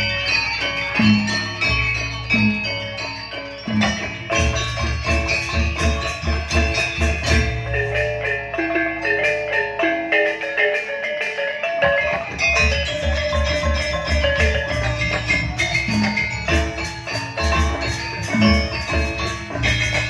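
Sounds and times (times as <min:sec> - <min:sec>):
metallophones ringing melody: 0:00.0 - 0:20.0.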